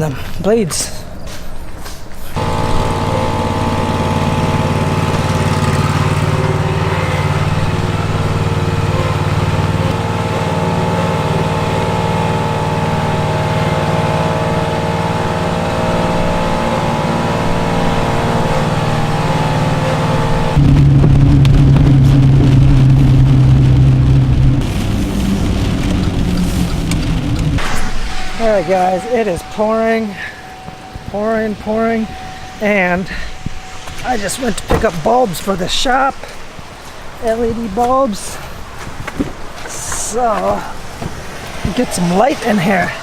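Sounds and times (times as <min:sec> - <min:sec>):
mower engine running: 0:02.4 - 0:37.4.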